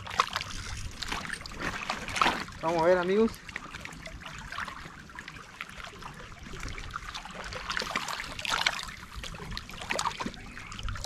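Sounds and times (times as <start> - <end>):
water lapping at shoreline: 0.0 - 11.0.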